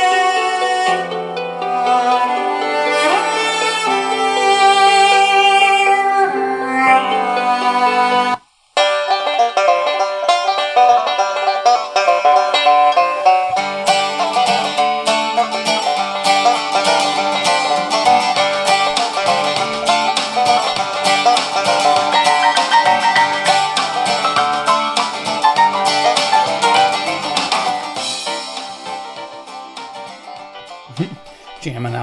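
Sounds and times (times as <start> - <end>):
banjo country music on small speaker: 0.0 - 6.1, 6.8 - 32.0.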